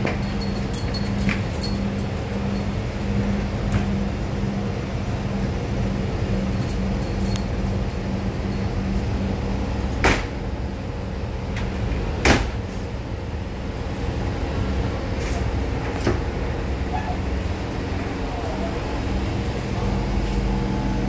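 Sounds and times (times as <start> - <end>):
train equipment low hum: 0.0 - 21.0.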